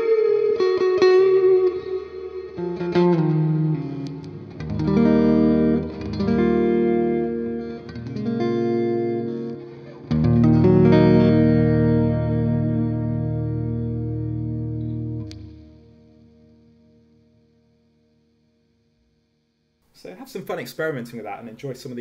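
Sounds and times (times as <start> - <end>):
electric guitar chords with reverb: 0.0 - 19.2.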